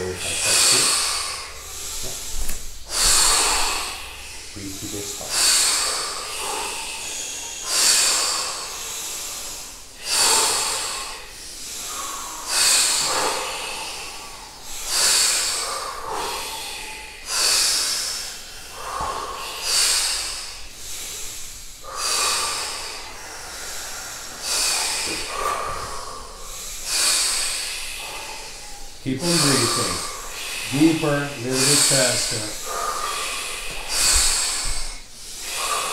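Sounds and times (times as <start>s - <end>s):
deep breathing in and out: 0.0s - 35.9s.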